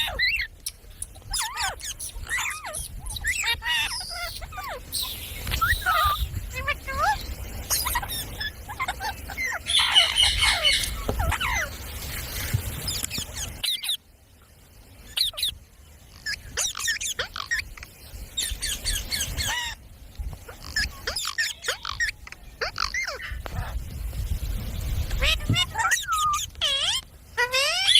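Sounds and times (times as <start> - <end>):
parrot chirping and squawking: 0.0 - 11.7, 12.9 - 14.0, 15.1 - 19.8, 20.5 - 23.8, 25.1 - 27.9.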